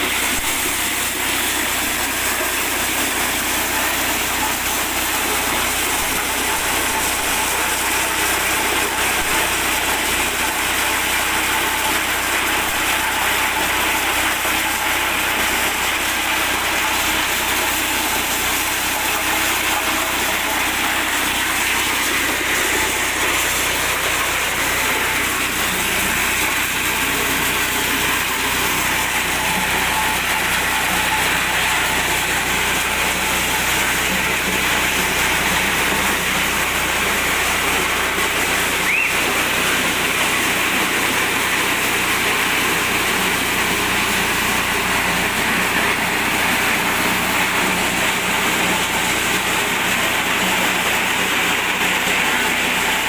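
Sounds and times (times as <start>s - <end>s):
corn sheller engine hissing: 0.0s - 53.0s.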